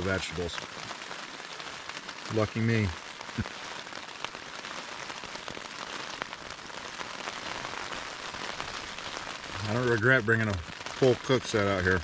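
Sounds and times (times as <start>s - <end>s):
rain on a tent: 0.0s - 12.0s.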